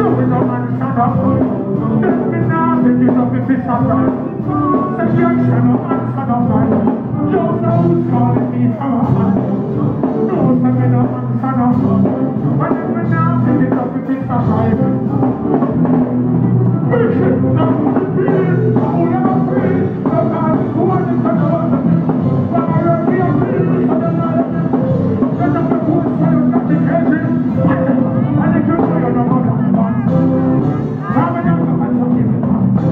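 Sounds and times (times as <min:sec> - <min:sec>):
person singing: 0:00.0 - 0:32.9
reggae band playing: 0:00.0 - 0:32.9.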